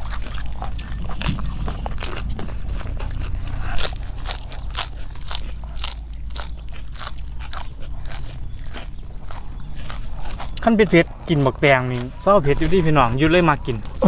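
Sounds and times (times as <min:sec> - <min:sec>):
chewing crisp food: 0:00.0 - 0:14.0.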